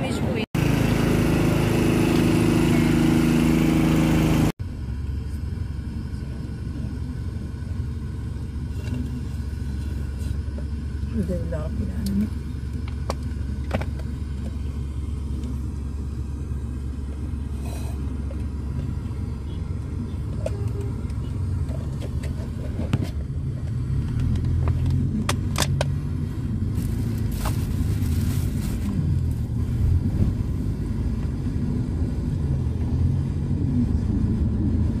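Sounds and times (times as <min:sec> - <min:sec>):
vehicle engines in slow traffic: 0:00.0 - 0:35.0.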